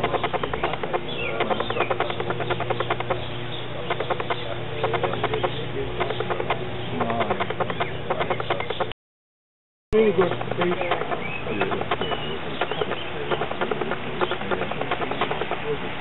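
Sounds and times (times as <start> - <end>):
model train wheels clicking: 0.0 - 8.9, 10.0 - 16.0
low hum: 0.0 - 9.0, 10.0 - 16.0.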